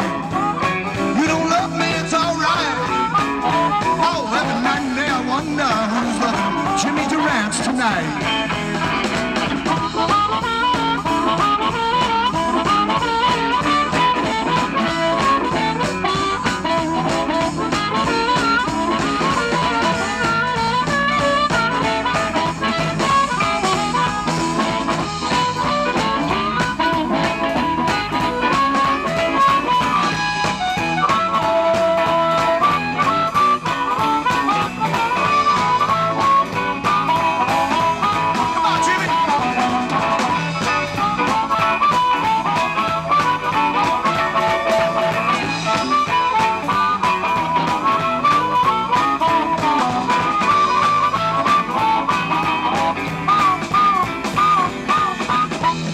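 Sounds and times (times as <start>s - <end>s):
blues band playing: 0.0s - 55.9s
harmonica solo: 0.0s - 55.9s.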